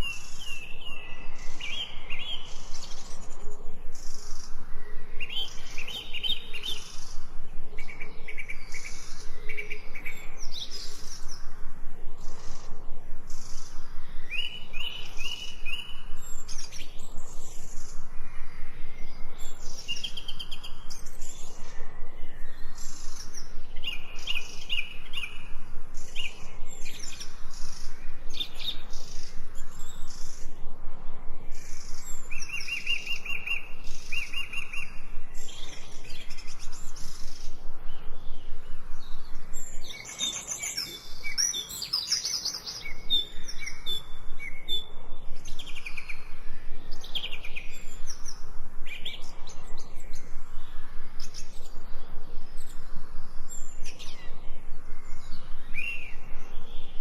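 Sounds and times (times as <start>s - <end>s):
birds chirping and singing: 0.0s - 30.7s, 31.5s - 57.0s.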